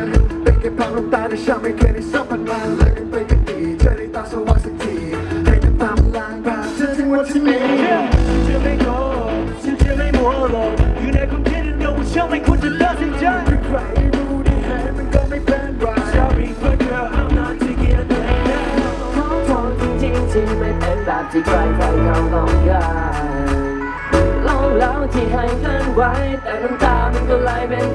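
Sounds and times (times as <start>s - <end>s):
live pop-rock band playing: 0.0s - 27.9s
man singing: 0.0s - 27.9s.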